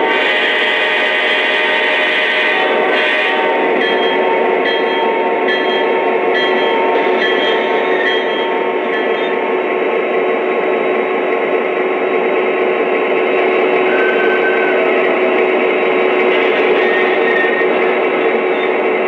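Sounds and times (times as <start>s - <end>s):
diesel engine drone through small speaker: 0.0s - 19.0s
model train wheel and track rumble: 0.0s - 19.0s.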